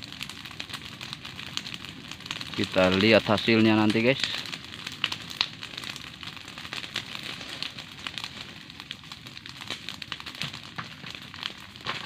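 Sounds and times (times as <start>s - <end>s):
open fire crackling and popping: 0.0s - 12.0s
steady hiss of fire: 0.0s - 12.0s.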